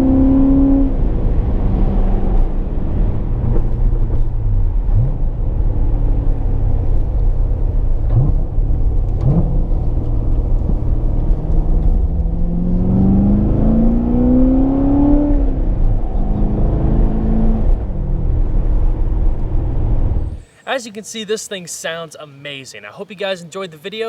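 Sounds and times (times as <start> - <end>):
car engine rumbling: 0.0 - 22.8.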